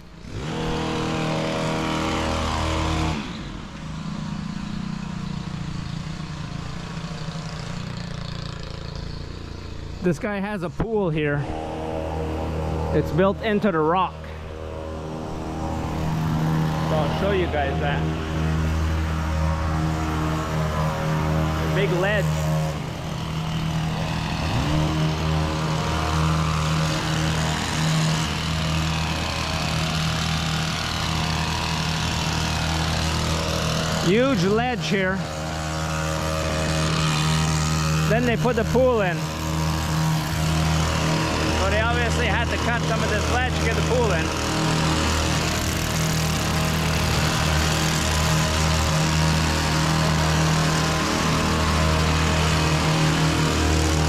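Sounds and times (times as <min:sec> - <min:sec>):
loud engine running: 0:00.0 - 0:54.0
low engine hum: 0:00.0 - 0:54.0.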